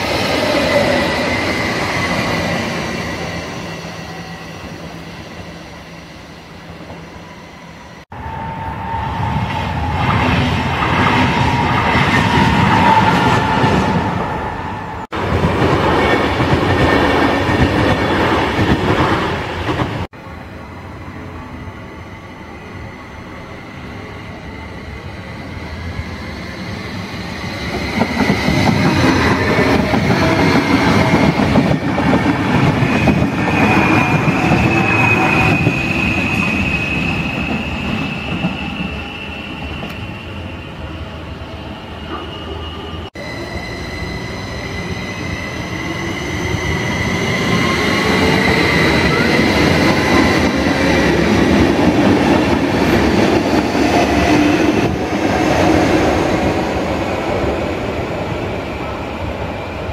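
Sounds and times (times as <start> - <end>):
high steady train whine: 0.0 - 59.9
train wheels on rails: 6.7 - 20.1, 22.6 - 41.0, 41.8 - 59.9.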